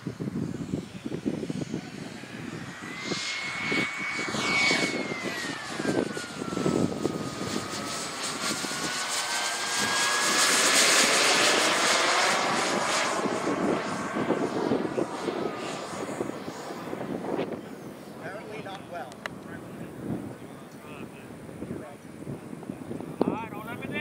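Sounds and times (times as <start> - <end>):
model jet turbine whining: 0.0 - 24.0.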